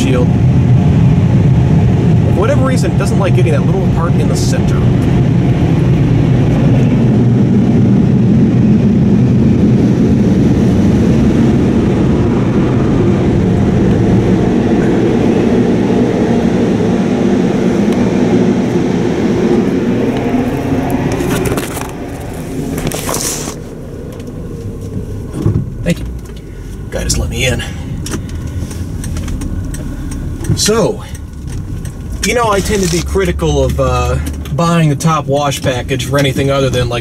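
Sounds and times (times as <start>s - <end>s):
car wash blowers roaring: 0.0s - 37.0s.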